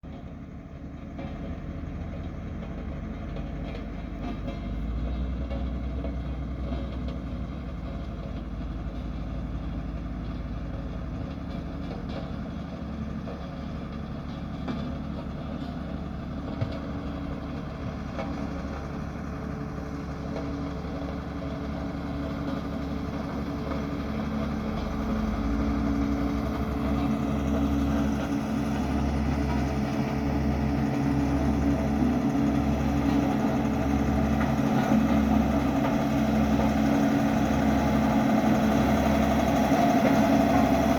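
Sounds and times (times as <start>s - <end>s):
road roller diesel engine: 0.0s - 40.9s.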